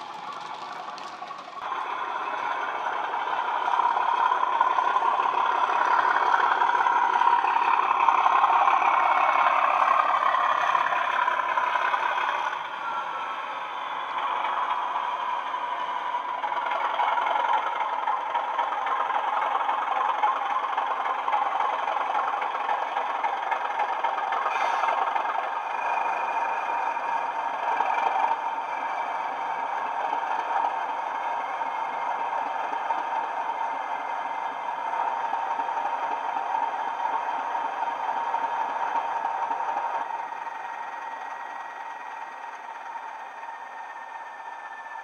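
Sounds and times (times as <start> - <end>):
model train diesel engine sound: 0.0 - 45.0.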